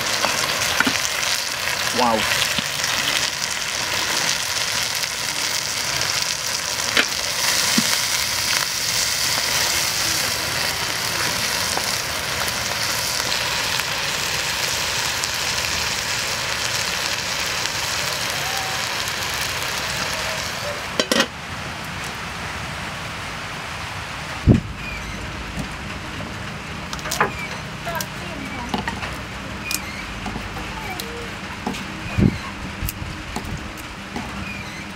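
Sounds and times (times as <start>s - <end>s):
pot sizzling: 0.0s - 21.4s, 24.6s - 34.9s.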